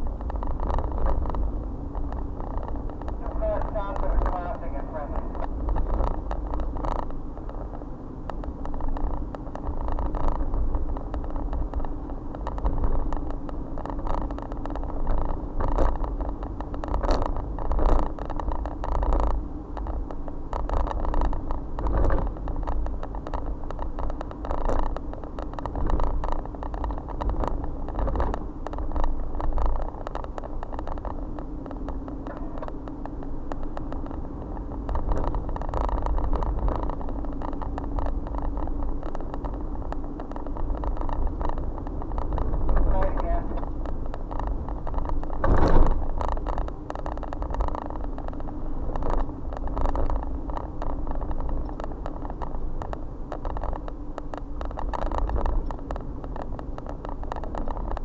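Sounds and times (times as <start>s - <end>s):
tyre and engine rumble: 0.0s - 58.0s.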